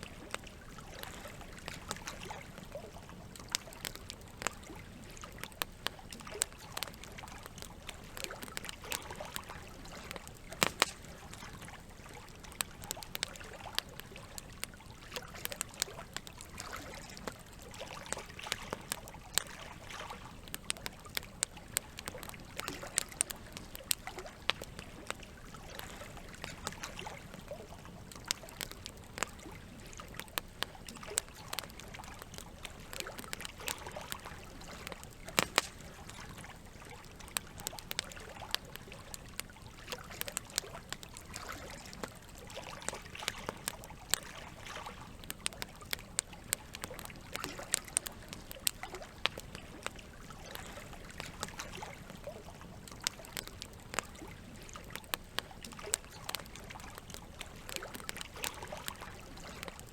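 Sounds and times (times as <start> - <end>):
campfire crackling and popping: 0.0 - 59.9
water trickling: 0.0 - 59.9.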